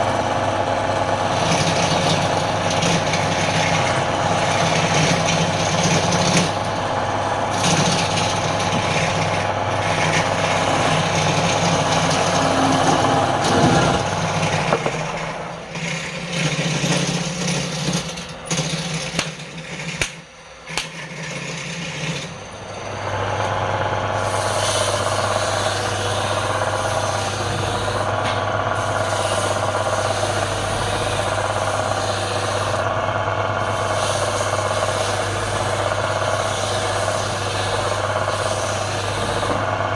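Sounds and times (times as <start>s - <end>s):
wood lathe humming: 0.0s - 39.9s.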